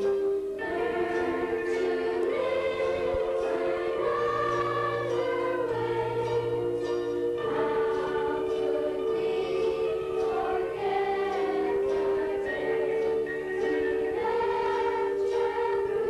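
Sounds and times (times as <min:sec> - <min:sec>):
youth choir singing: 0:00.0 - 0:16.0.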